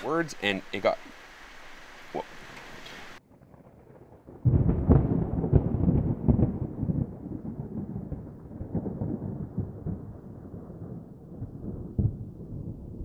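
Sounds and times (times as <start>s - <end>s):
thunder rumbling and crackling: 2.4s - 13.0s.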